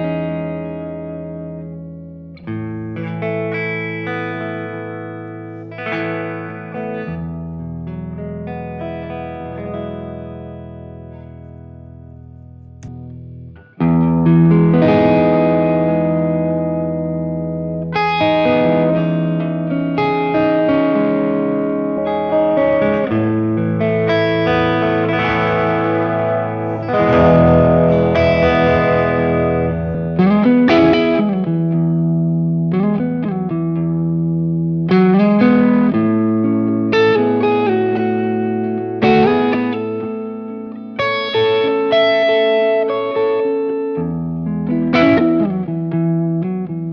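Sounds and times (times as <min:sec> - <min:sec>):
overdriven electric guitar chords: 0:00.0 - 0:46.9.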